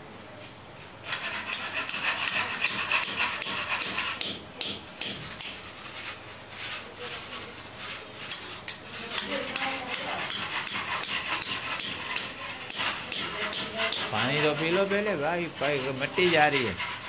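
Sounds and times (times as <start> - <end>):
hand tool scraping wall: 1.0 - 4.3, 5.0 - 17.0.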